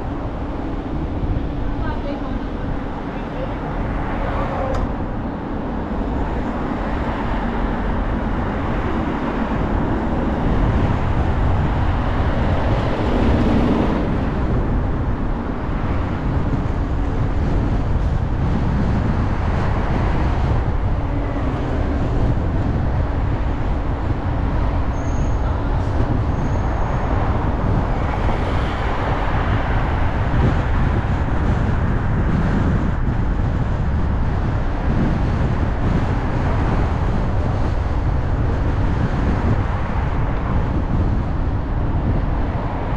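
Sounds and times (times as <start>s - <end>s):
bus passing: 0.0s - 42.9s
car tyres and engine rumble: 0.0s - 42.9s
vehicles passing: 0.0s - 42.9s.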